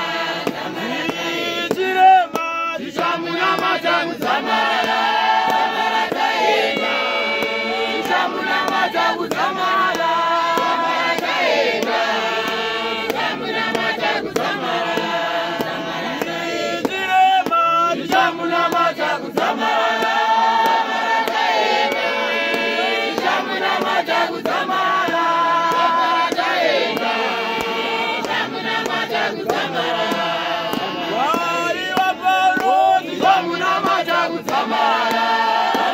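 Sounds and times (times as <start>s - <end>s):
group singing a hymn: 0.0s - 35.9s.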